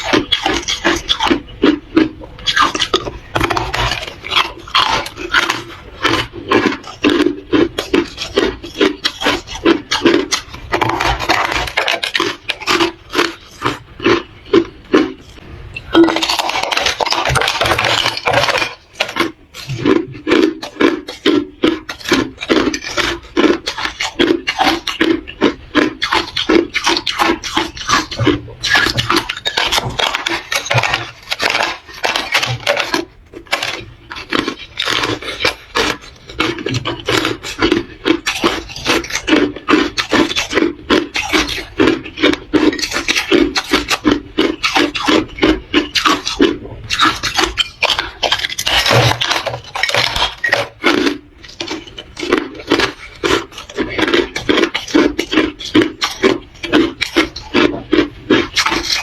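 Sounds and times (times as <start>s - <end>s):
chewing ice crunching: 0.0s - 59.0s.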